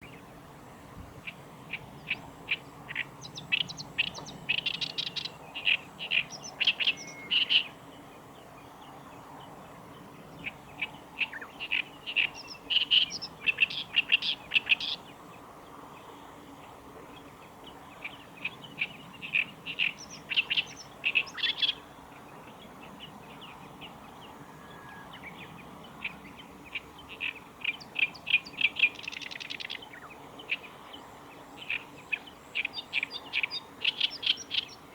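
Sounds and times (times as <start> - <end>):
warbler singing: 0.0 - 15.4, 17.1 - 34.9.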